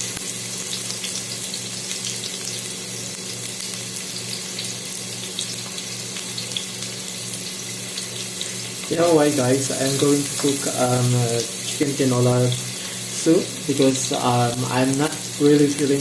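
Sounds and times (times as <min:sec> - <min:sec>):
garlic and ginger sizzling in oil: 0:00.0 - 0:16.0.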